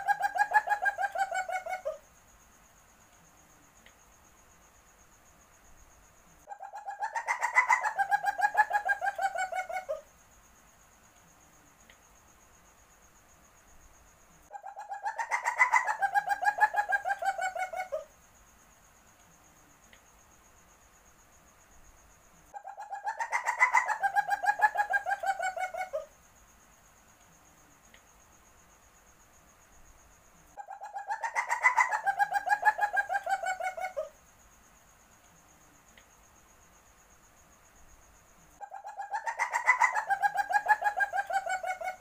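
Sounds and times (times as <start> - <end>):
faint high pulsing chirping: 0.0 - 42.0.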